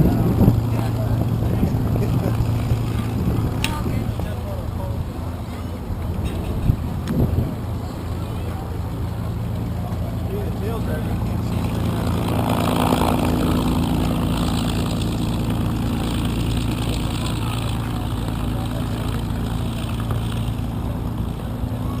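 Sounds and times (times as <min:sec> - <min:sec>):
propeller aircraft engine running: 0:00.0 - 0:22.0.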